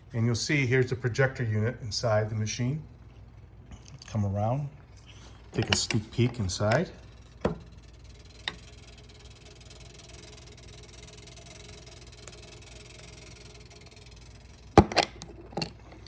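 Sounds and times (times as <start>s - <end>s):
arcade machine hum and whine: 0.0s - 16.0s.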